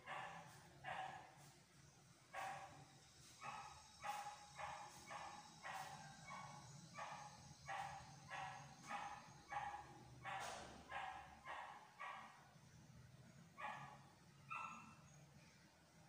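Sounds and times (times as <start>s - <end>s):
faint dog barking: 0.0s - 1.6s, 2.2s - 12.5s, 13.4s - 15.4s.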